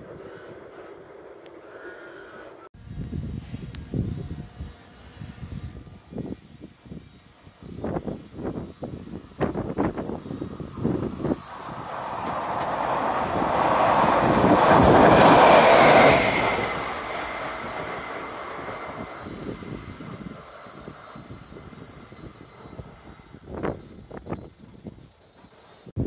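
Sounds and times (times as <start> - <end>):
train rumble and wheel noise: 0.0 - 26.0.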